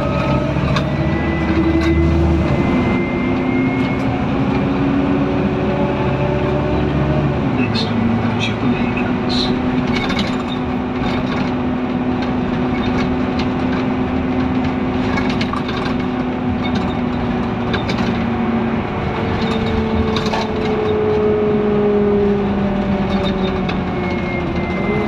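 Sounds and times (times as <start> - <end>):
bus diesel engine droning: 0.0 - 25.0
road noise: 0.0 - 25.0.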